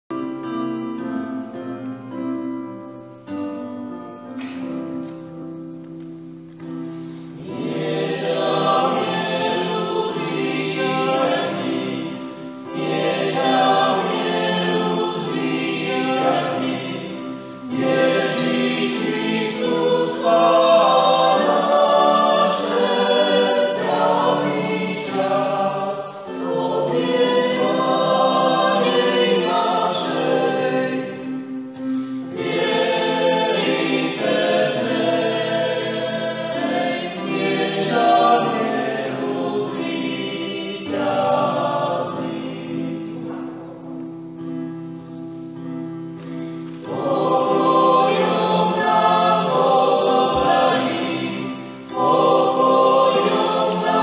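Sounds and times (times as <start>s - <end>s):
choir singing a sacred song: 0.2s - 54.0s.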